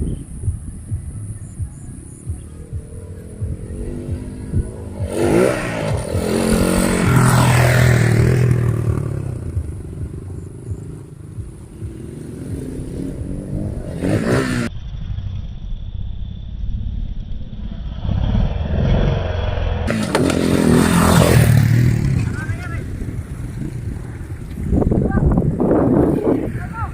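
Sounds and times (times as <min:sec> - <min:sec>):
dirt bike engines revving: 0:00.0 - 0:15.5, 0:17.6 - 0:26.9.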